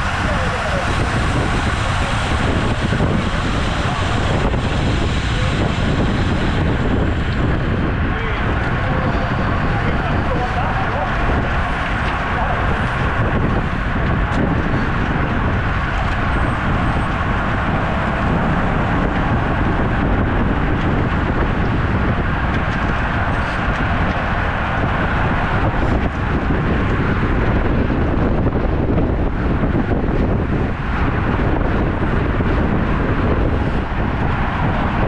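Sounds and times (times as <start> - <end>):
road noise: 0.0 - 35.0
wind buffeting microphone: 0.0 - 35.0.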